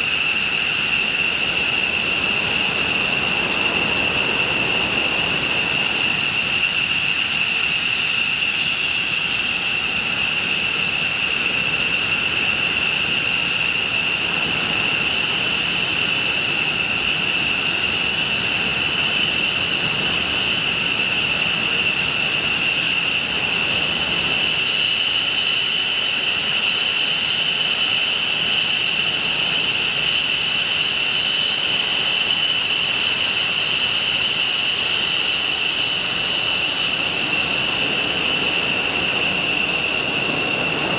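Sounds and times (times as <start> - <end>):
jet engine whine: 0.0 - 40.9.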